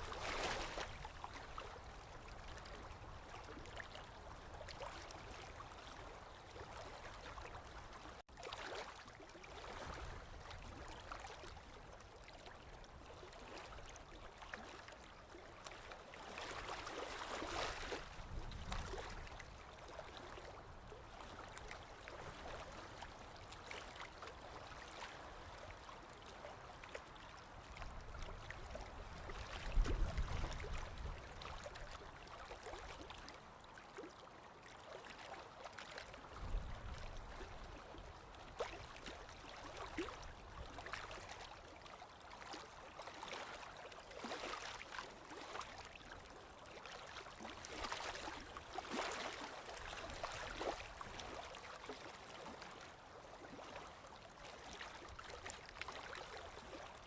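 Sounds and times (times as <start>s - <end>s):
stream flowing and gurgling: 0.0s - 57.0s.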